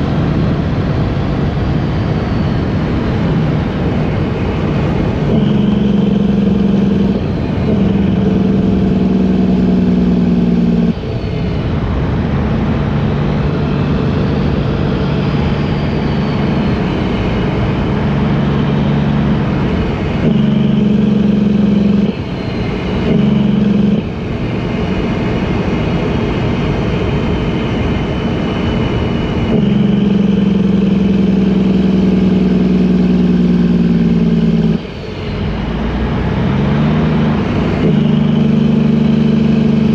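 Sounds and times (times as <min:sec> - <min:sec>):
farm vehicle engine running: 0:00.0 - 0:39.9.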